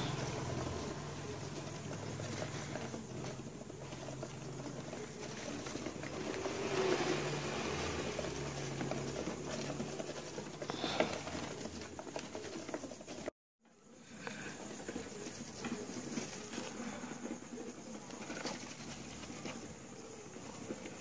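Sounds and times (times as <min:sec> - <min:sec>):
hamsters scurrying in bedding: 0:00.0 - 0:21.0.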